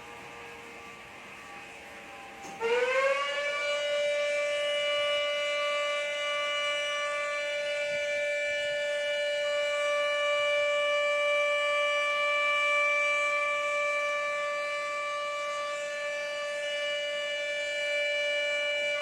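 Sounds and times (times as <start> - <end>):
flood warning siren: 0.0 - 19.0.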